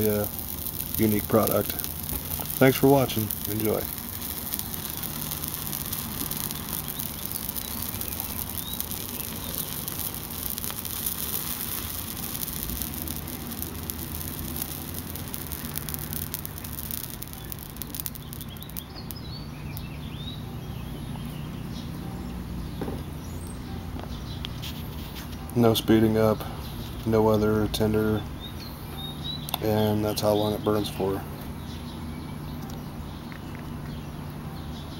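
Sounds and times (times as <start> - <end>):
background hiss: 0.0 - 23.5, 24.1 - 34.9
small fire crackling: 0.0 - 34.9.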